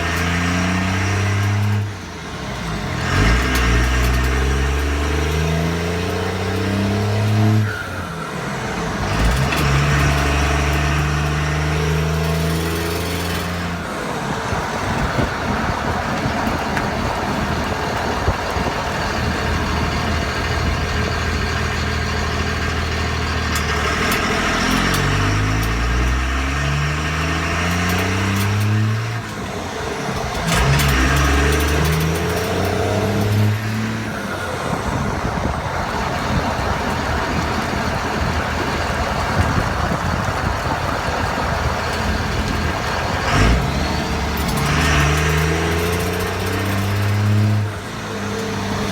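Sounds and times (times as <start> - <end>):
diesel truck engine revving: 0.0 - 48.9.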